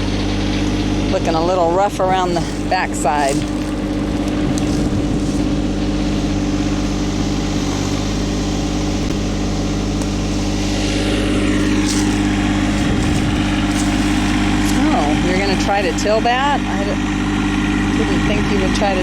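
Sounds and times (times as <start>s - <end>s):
garden tiller engine running: 0.0s - 19.0s.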